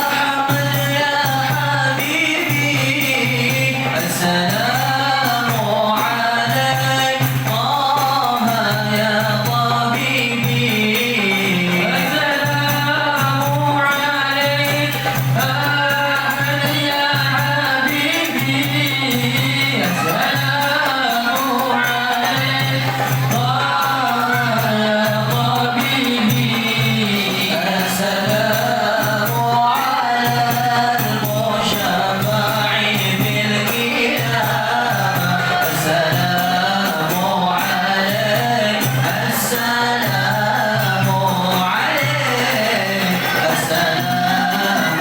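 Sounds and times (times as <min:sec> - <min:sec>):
tambourine-like hand percussion: 0:00.0 - 0:45.0
voices singing devotional chant: 0:00.0 - 0:45.0.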